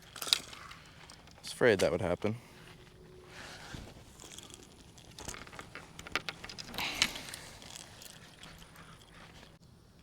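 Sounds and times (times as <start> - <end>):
rustling and crinkling handling: 0.0 - 9.6.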